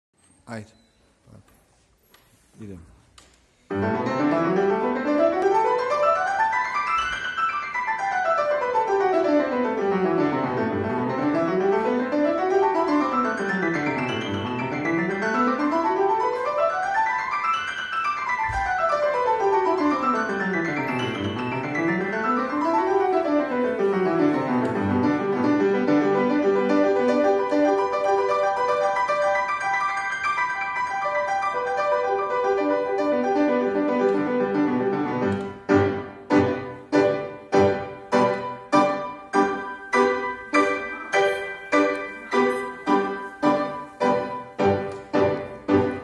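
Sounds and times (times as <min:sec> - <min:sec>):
piano playing fast scales: 0:03.7 - 0:46.0.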